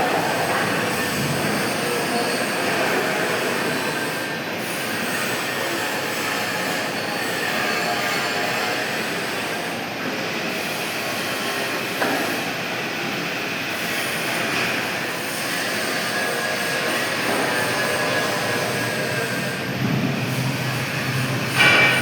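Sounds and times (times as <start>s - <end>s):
lathe machining metal: 0.0s - 22.0s.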